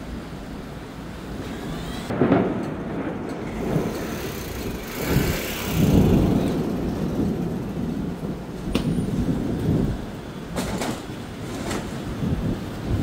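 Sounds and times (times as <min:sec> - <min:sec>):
thunder rumbling: 0:02.0 - 0:13.0.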